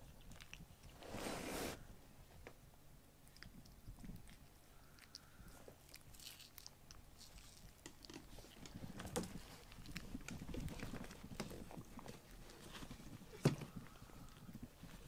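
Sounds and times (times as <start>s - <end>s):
kittens chewing food: 0.0s - 1.1s, 3.1s - 15.0s.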